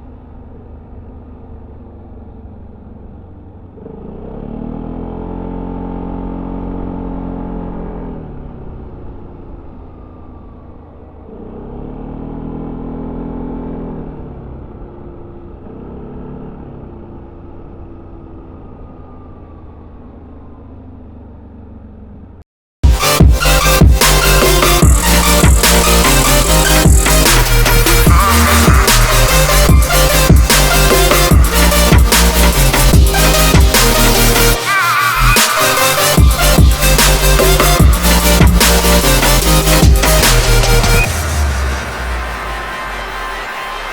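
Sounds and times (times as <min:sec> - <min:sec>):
scooter engine revving: 0:00.8 - 0:43.9.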